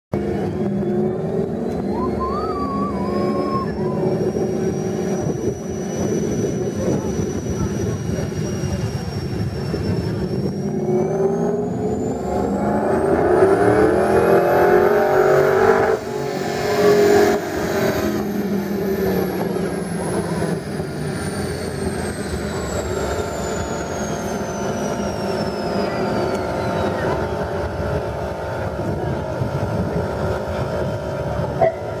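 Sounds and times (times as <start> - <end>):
engine revving at full throttle: 0.2 - 32.0
high supercharger whine: 0.2 - 32.0.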